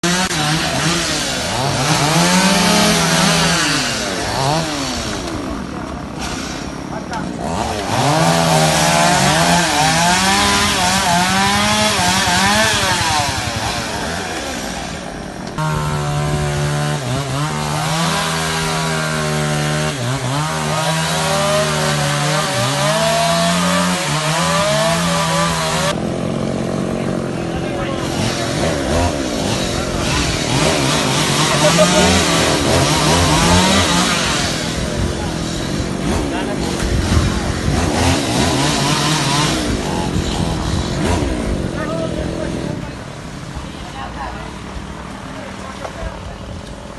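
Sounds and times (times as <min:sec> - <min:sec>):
chainsaw revving: 0:00.0 - 0:43.9.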